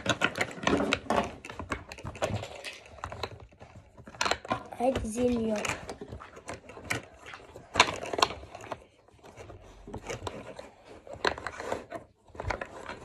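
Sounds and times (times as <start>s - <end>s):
plastic blocks clacking: 0.0s - 13.0s
plastic rubbing: 0.0s - 13.0s.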